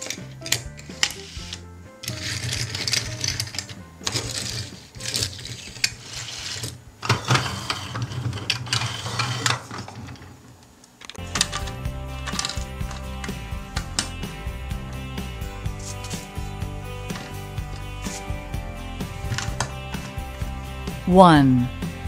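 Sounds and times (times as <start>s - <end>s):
toy car wheels whirring and rattling: 0.0s - 10.4s, 11.1s - 20.3s.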